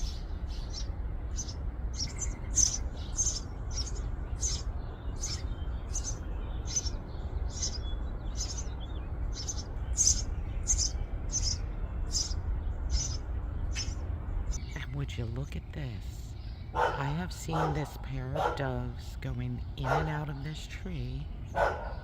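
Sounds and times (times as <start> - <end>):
low background rumble: 0.0 - 22.0
sparrow chirping: 0.0 - 22.0.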